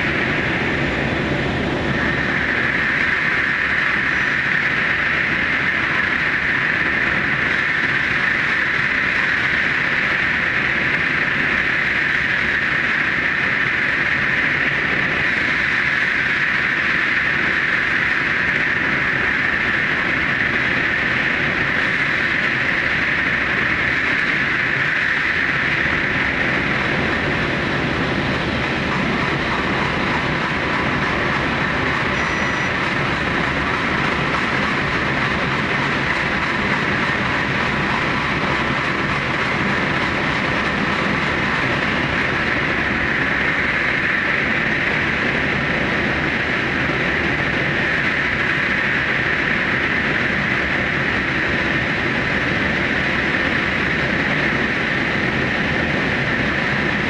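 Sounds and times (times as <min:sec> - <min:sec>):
electric train running in tunnel: 0:00.0 - 0:57.0.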